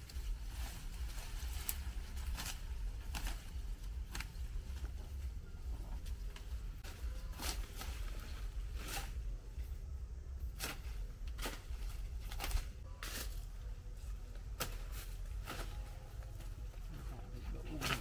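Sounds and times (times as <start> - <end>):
rustles and clicks: 0.0 - 9.8, 10.4 - 18.0
low steady rumble: 0.0 - 17.8.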